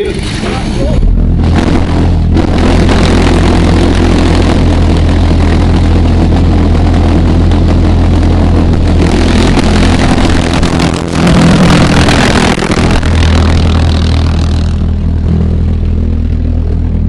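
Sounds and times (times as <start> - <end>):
pulse jet engine droning: 0.0 - 17.0.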